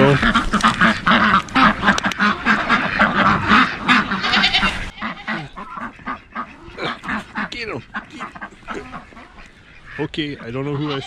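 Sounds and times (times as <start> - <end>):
ducks quacking: 0.0 - 11.0
goats bleating: 0.0 - 11.0.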